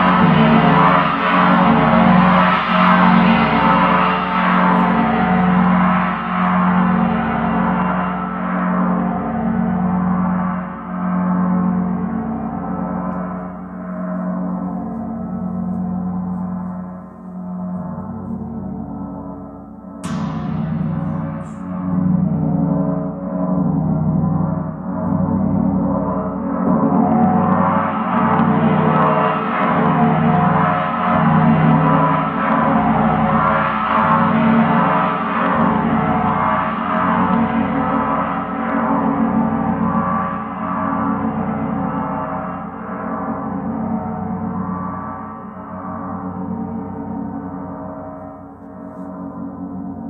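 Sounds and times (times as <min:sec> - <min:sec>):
spinning gong ringing: 0:00.0 - 0:19.2, 0:19.9 - 0:48.0
gong struck with mallet: 0:00.0 - 0:19.3, 0:19.9 - 0:49.8.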